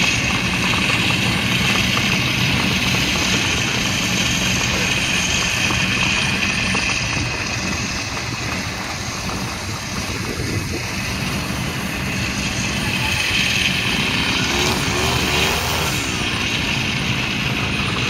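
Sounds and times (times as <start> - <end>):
model plane motor whining: 0.0 - 18.0
wind rumbling on microphone: 0.0 - 18.0.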